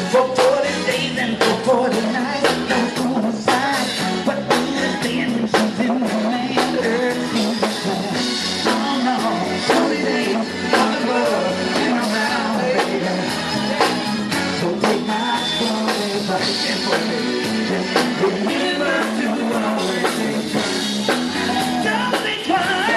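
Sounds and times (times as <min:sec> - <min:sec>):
man singing: 0:00.0 - 0:22.9
rock and roll music with drums: 0:00.0 - 0:22.9.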